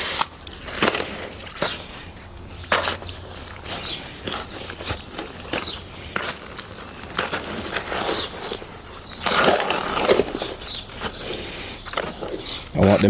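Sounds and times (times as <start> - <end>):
mortar stirred in a bucket: 0.0 - 13.0.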